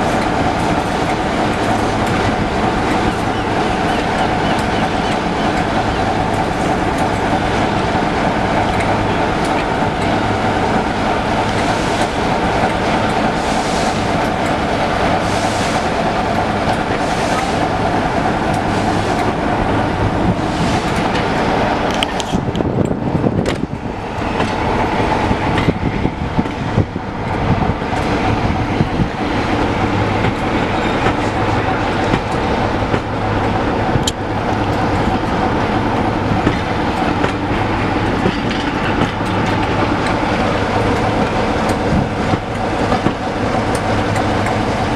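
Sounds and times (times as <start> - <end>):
train coaches rumbling past: 0.0 - 44.9.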